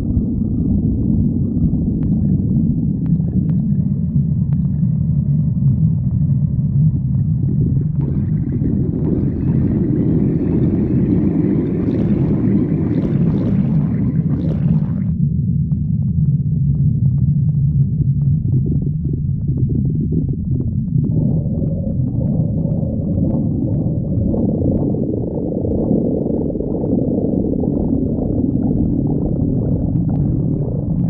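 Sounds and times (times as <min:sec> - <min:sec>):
higher-pitched stomach rumble: 0:00.0 - 0:31.0
stomach growling: 0:00.0 - 0:31.0.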